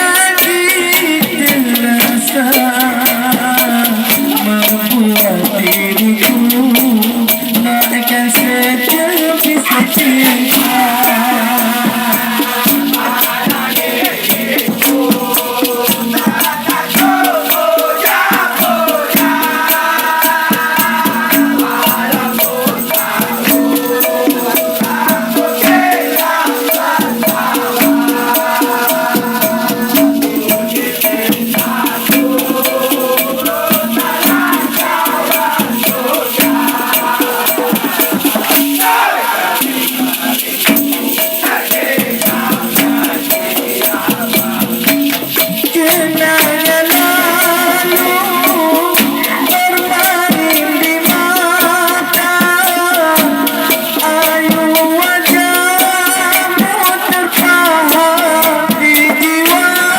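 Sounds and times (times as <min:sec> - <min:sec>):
shaker rhythm: 0:00.0 - 0:59.9.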